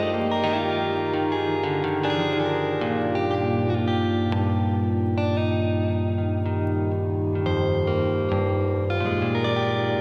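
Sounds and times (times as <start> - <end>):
electric guitar with effects: 0.0 - 10.0.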